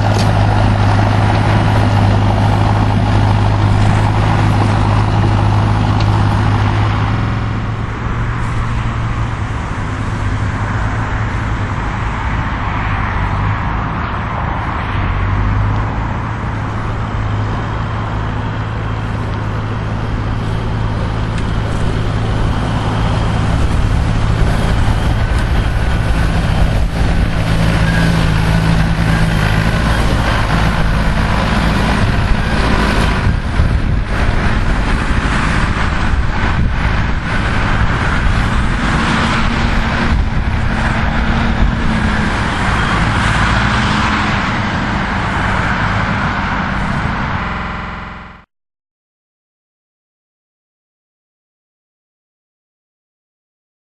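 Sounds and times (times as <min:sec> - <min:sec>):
tractor diesel engine running: 0:00.0 - 0:48.5.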